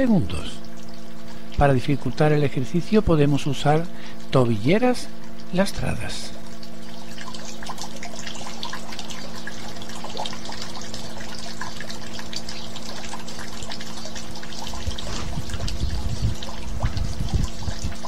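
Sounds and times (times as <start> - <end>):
water trickling and dripping: 0.0 - 18.0.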